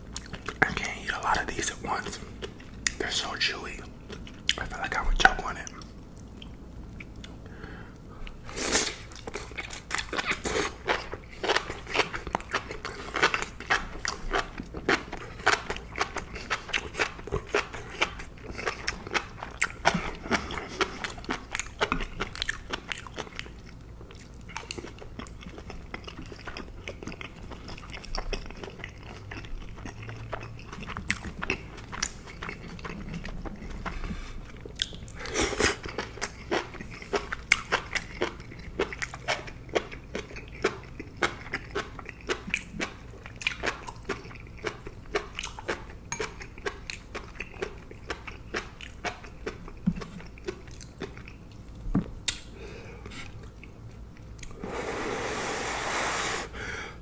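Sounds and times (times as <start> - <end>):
person chewing wetly: 0.0 - 54.7.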